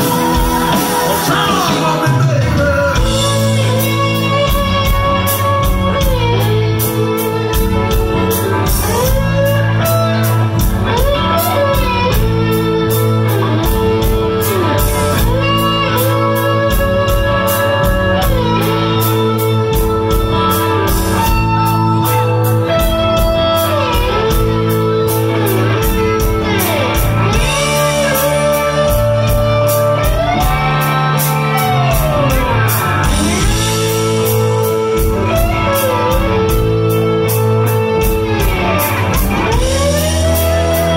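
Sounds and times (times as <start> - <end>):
electric guitar solo: 0.0 - 40.9
live rock band playing: 0.0 - 40.9.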